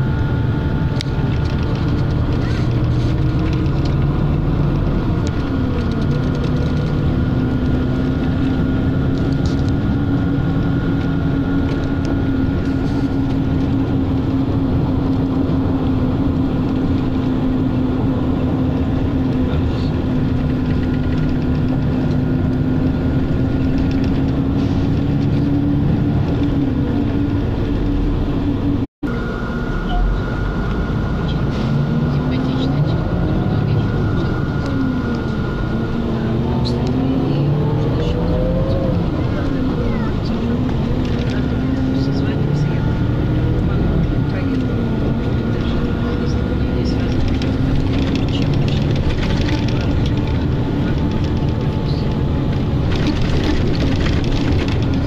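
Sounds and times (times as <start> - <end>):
vehicle road noise: 0.0 - 55.0
whine shifting in pitch: 0.0 - 55.0.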